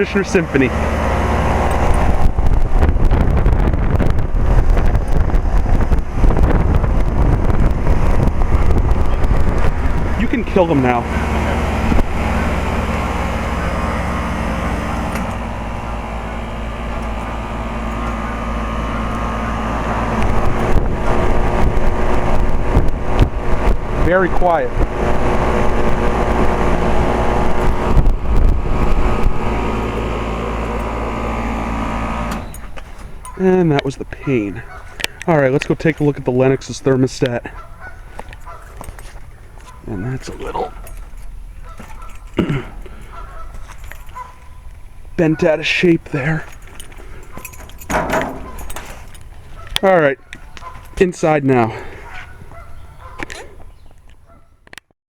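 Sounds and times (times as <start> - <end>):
air conditioner compressor and fan: 0.0 - 53.8
low rumbles: 0.0 - 54.3
wind buffeting microphone: 0.0 - 54.4.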